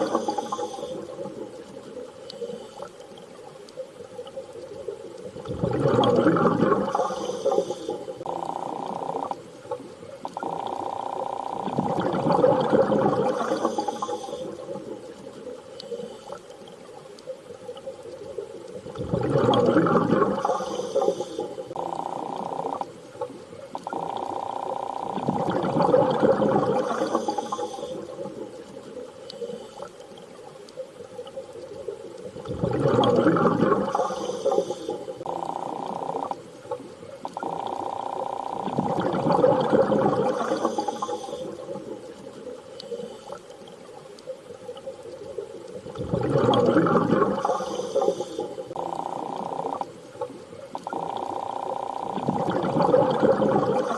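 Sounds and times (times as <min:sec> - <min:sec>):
rushing bubbling water underwater: 0:00.0 - 0:53.9.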